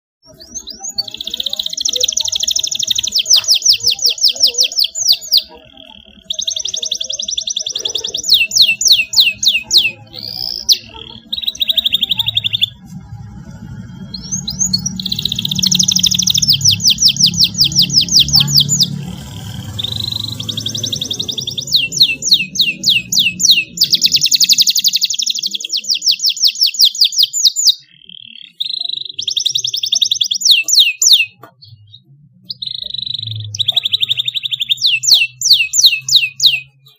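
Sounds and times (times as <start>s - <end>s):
canary singing: 0.2s - 36.9s.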